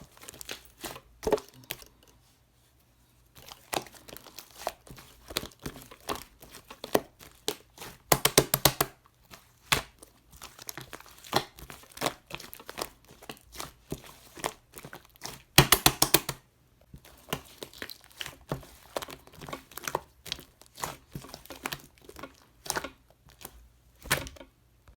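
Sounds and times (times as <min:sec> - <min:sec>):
crunchy slime crackling: 0:03.3 - 0:16.4, 0:17.0 - 0:24.4.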